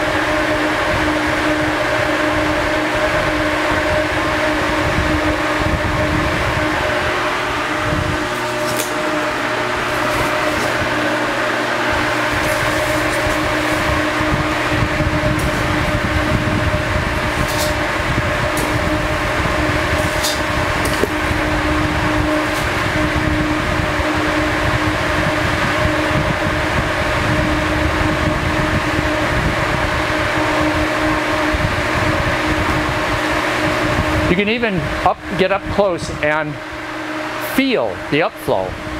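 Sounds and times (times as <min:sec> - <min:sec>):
exhaust fan rushing air: 0:00.0 - 0:38.9.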